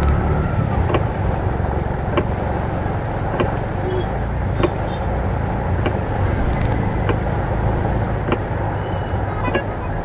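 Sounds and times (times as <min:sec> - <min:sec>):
auto rickshaw engine humming: 0:00.0 - 0:10.0
tyres on flooded road: 0:00.0 - 0:10.0.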